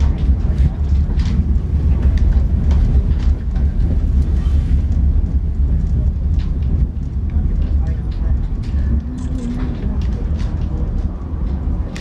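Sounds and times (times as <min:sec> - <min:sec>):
wheels rumbling on rails: 0:00.0 - 0:12.0.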